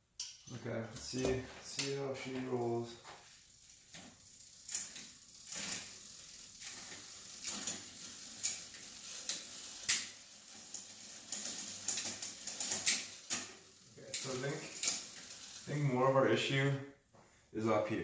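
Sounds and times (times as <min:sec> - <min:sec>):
bicycle chain clicking over cogs: 0:00.2 - 0:16.7.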